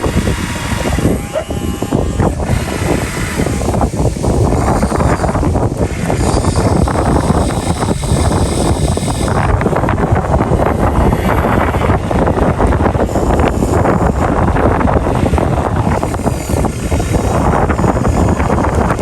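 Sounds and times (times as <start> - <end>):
excavator engine running: 0.0 - 19.0
wind buffeting microphone: 0.0 - 19.0.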